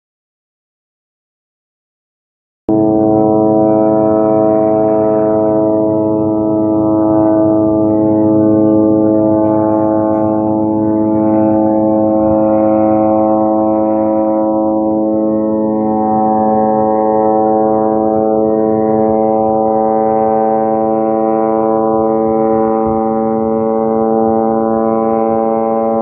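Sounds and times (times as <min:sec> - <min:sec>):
loud low horn-like tone: 0:02.7 - 0:26.0.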